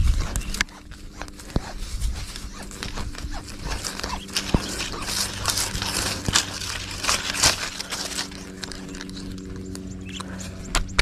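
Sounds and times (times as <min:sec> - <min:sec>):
faint low hum: 0:00.0 - 0:11.0
rustling and crackling: 0:00.0 - 0:11.0.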